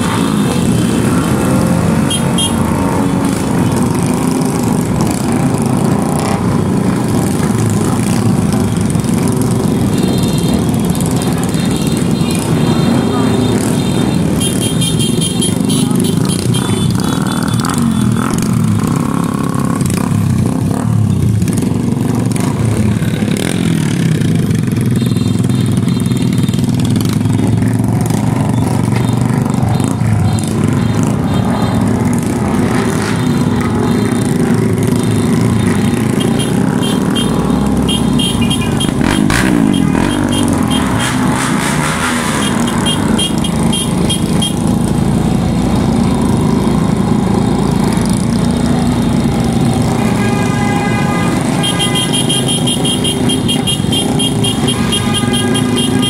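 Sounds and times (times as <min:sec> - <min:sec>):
motorcycle and scooter engines: 0:00.0 - 0:56.0.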